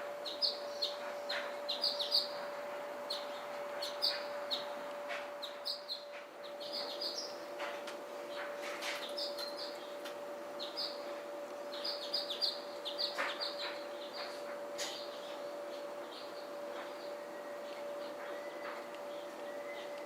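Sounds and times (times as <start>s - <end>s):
low steady hum: 0.0s - 20.0s
small birds chirping: 0.2s - 2.5s, 3.1s - 4.8s, 5.4s - 7.5s, 8.3s - 10.0s, 10.6s - 20.0s.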